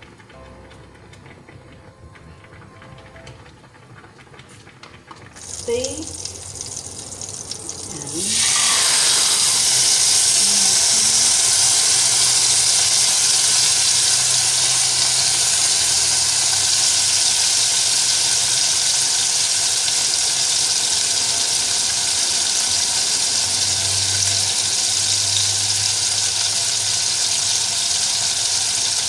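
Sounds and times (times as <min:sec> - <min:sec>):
steak sizzling in frying pan: 0:05.2 - 0:29.0.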